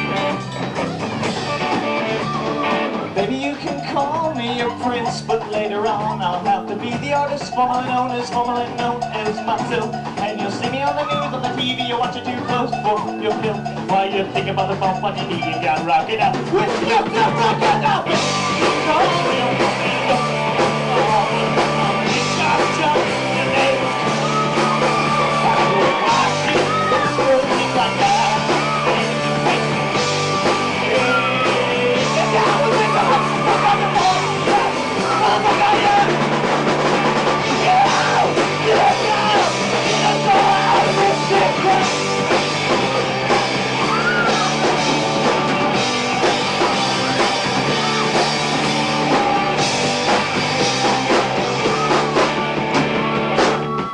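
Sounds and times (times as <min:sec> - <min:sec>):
stepping low bass line: 0:00.0 - 0:53.8
band playing loud rock song: 0:00.0 - 0:53.9
bending wavering lead guitar: 0:00.0 - 0:53.9.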